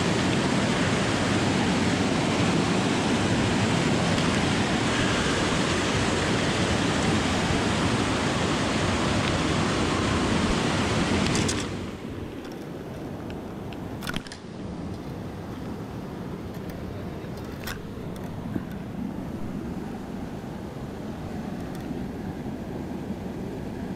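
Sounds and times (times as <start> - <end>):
creek water rushing: 0.0 - 23.9.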